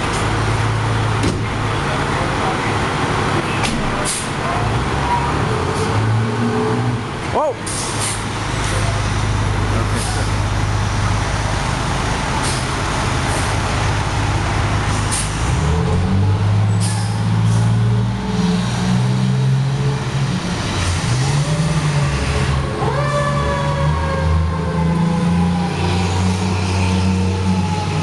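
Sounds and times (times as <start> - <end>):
fire truck engine accelerating: 0.0 - 28.0.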